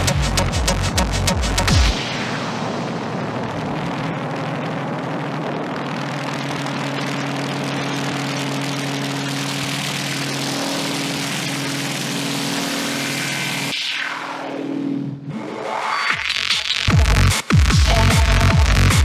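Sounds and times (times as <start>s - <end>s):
noisy synth drone: 0.0s - 19.0s.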